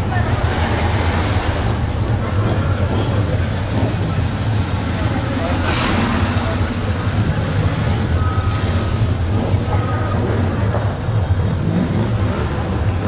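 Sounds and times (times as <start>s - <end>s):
car engines rumbling past: 0.0s - 13.0s.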